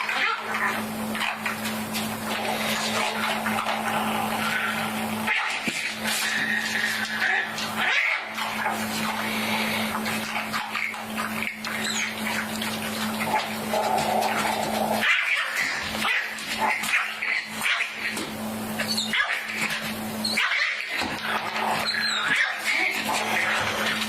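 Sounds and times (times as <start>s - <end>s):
puppies yipping and whining: 0.0s - 24.0s
steady low hum: 0.0s - 24.0s.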